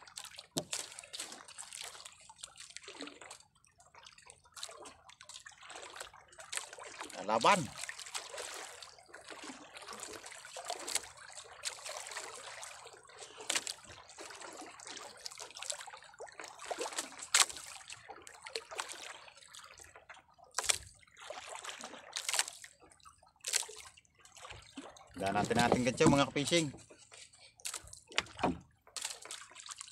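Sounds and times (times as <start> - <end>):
water lapping against a boat: 0.0 - 29.9.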